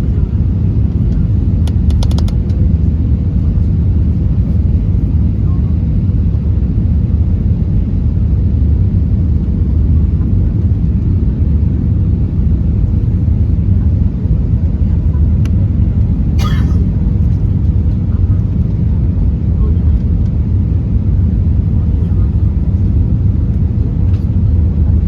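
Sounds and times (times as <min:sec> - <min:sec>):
airplane low rumble: 0:00.0 - 0:25.0.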